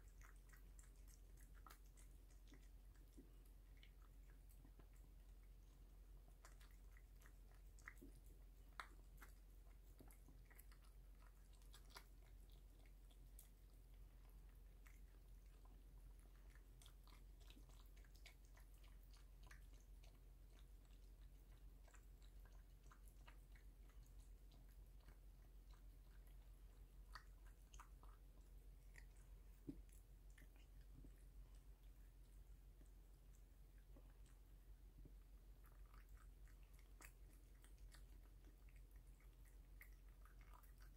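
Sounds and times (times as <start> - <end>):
cat chewing and licking food: 0.0 - 40.9.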